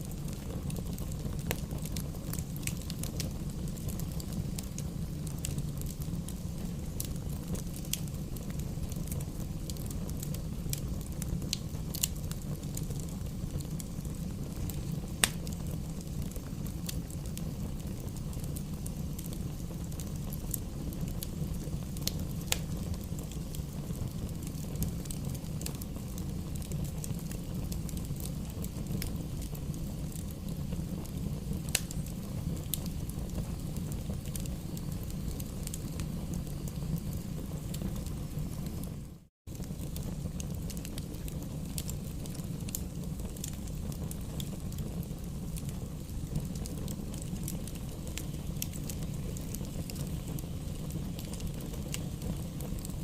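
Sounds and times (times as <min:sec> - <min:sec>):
flames rumbling: 0:00.0 - 0:53.0
logs crackling and popping: 0:00.0 - 0:53.0.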